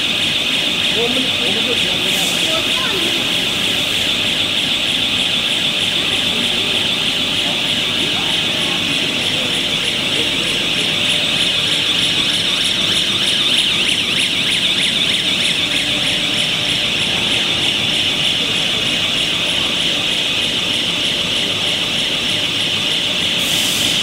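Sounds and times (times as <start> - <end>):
machine hiss and whine: 0.0 - 24.0.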